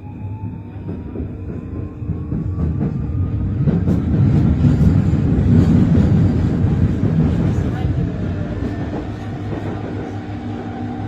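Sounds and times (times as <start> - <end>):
train wheels rumbling: 0.3 - 11.0.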